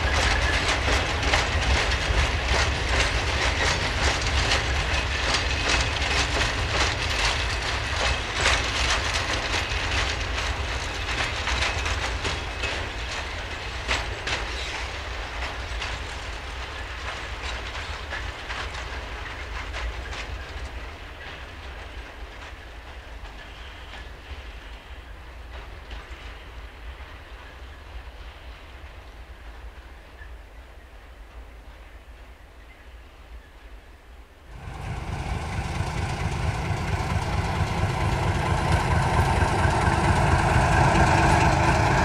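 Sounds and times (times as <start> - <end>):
train wheels clattering on track: 0.0 - 33.8, 34.4 - 42.0.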